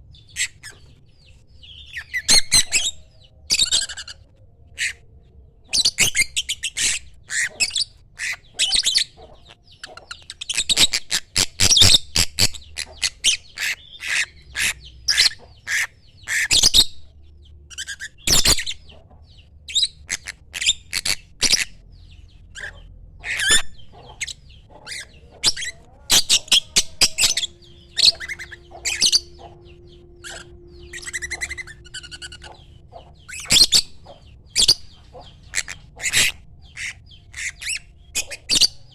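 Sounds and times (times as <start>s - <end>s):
bird shrill chirps and squawks: 1.7s - 4.2s, 5.6s - 19.0s, 19.7s - 38.9s.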